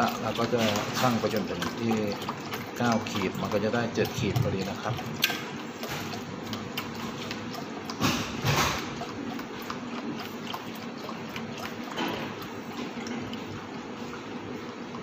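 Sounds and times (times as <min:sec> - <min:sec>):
liquid pouring into metal bowl: 0:00.0 - 0:15.0.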